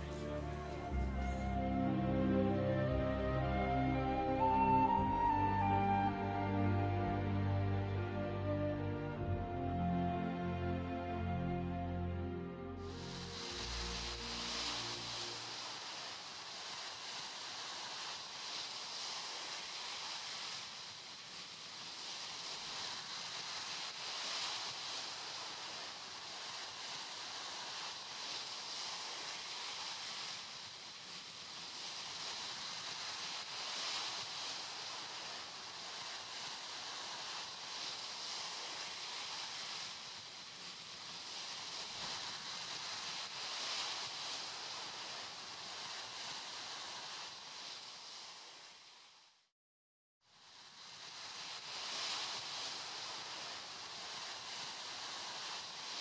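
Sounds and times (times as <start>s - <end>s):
sea waves washing up beach: 0.0s - 11.5s, 12.8s - 49.5s, 50.3s - 56.0s.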